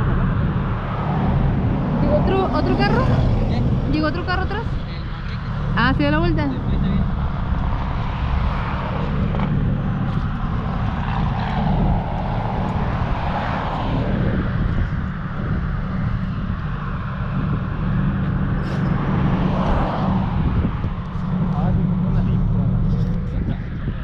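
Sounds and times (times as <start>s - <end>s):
road or wind noise: 0.0s - 24.0s
vehicle running low rumble: 0.0s - 24.0s.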